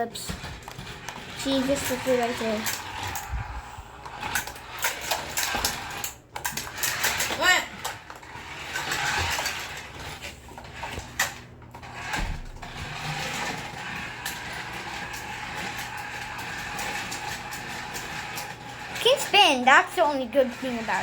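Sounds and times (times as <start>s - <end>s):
toy car motor whirring: 0.0s - 21.0s.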